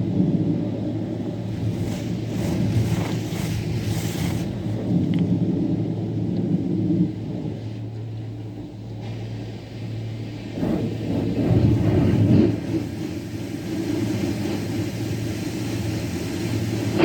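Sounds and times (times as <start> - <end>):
rumbling noise: 0.0 - 7.6, 8.3 - 17.0
low mechanical hum: 0.0 - 17.0.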